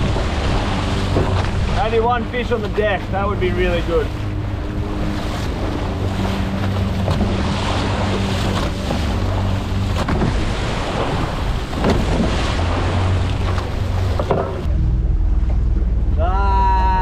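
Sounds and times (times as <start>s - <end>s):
wind buffeting microphone: 0.0s - 16.2s
boat engine humming: 0.0s - 17.0s
rough water wash: 0.0s - 17.0s.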